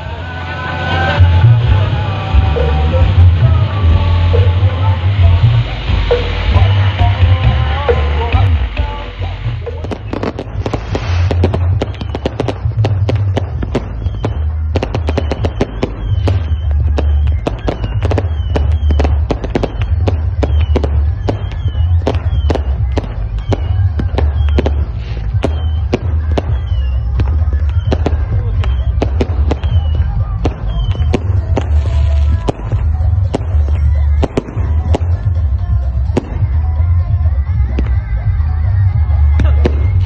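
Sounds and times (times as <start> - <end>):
fireworks whistle: 0.0 - 35.3
deep bass music: 0.0 - 40.0
fireworks bangs: 0.0 - 40.0.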